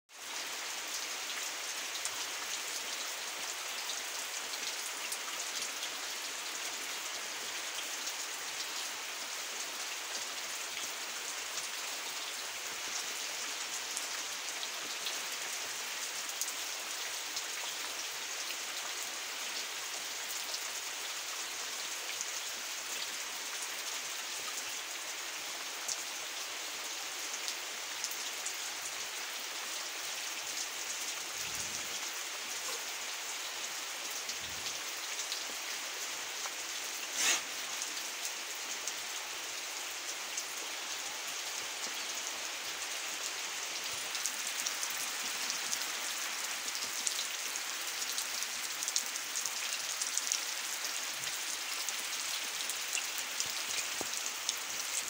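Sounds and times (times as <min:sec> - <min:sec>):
heavy rain on water: 0:00.1 - 0:55.0.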